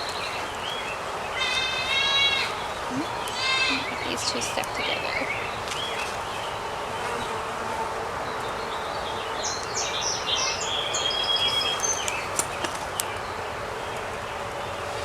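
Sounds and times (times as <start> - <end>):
songbird chirping: 0.0 - 7.4, 8.3 - 14.9
bees buzzing: 1.0 - 15.0.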